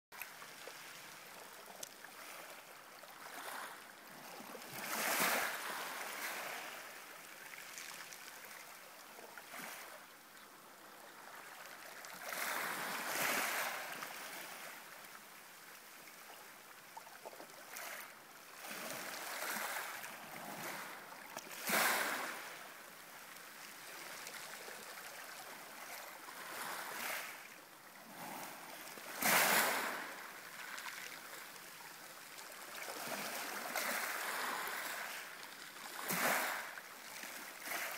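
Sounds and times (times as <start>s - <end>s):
small waves lapping: 0.2s - 37.9s.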